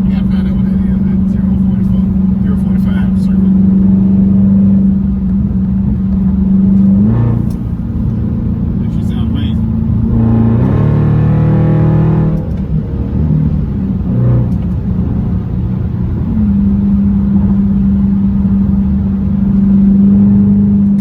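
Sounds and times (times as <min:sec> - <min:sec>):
car exhaust accelerating: 0:00.0 - 0:21.0.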